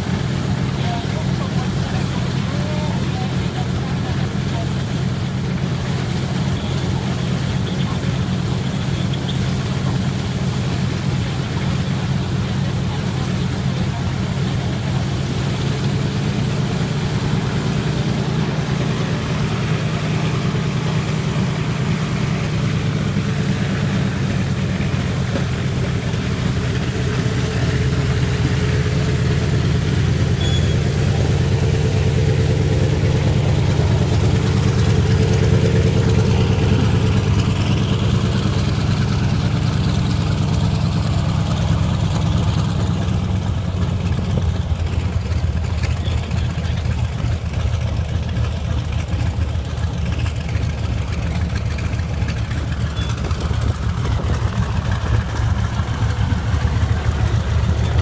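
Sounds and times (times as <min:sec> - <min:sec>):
radial engine idling: 0:00.0 - 0:58.0.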